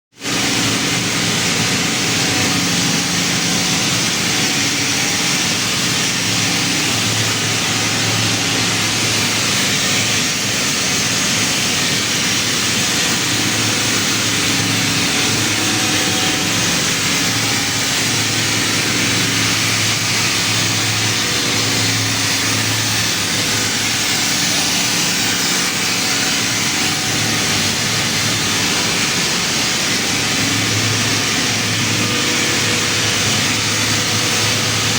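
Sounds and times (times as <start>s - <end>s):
air compressor running: 0.2s - 34.9s.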